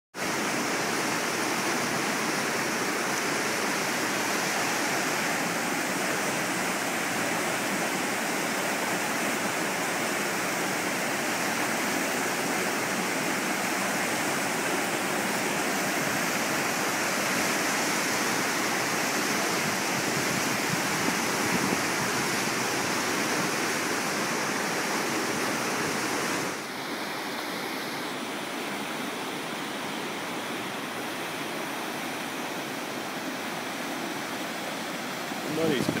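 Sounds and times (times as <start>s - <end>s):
river rushing through rapids: 0.2s - 36.0s.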